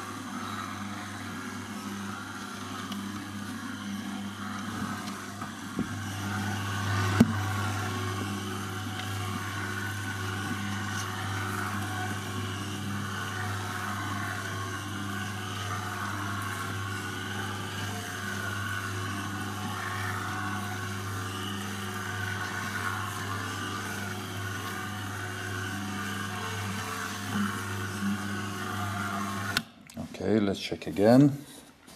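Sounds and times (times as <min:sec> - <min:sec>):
dough mixer humming: 0:00.0 - 0:31.4.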